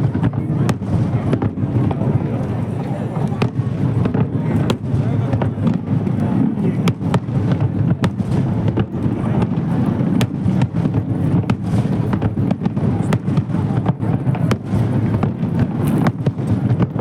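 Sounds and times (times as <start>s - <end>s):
fireworks rumble of shell bursts: 0.0s - 17.0s
fireworks sharp cracks: 0.0s - 17.0s.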